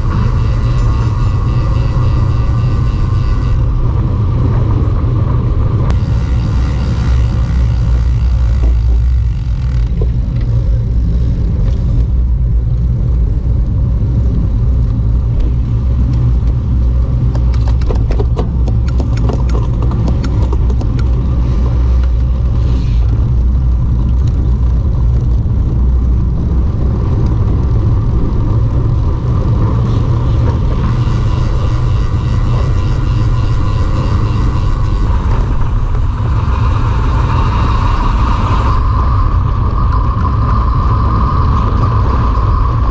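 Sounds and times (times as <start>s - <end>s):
wind buffeting microphone: 0.0s - 42.9s
bike clicks and rattles: 5.8s - 42.9s.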